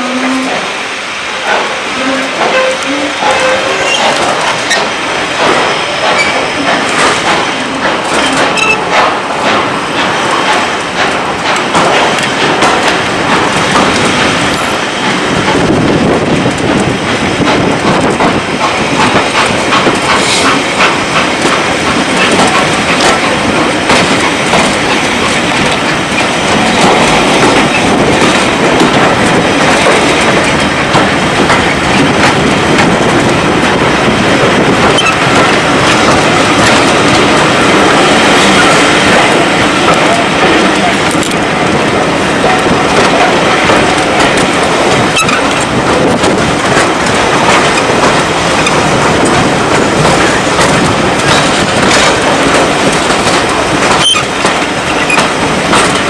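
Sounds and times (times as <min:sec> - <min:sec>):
train rumbling: 0:00.0 - 0:56.0
wheels clicking over rail joints: 0:01.4 - 0:56.0.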